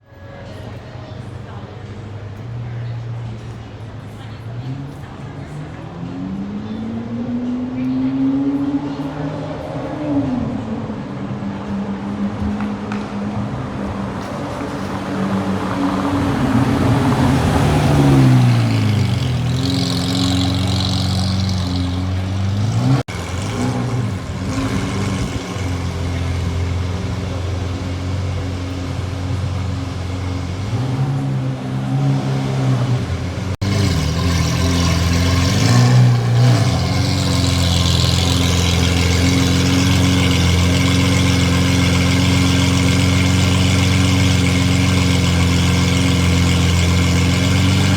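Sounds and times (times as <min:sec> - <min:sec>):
sports car engine revving and idling: 0:02.1 - 0:47.9.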